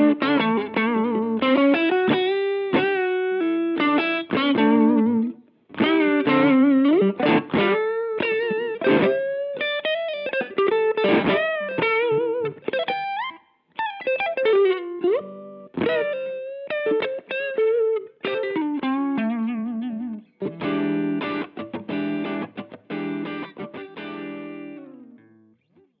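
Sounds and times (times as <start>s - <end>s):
electric guitar with warbling effect: 0.0s - 25.8s.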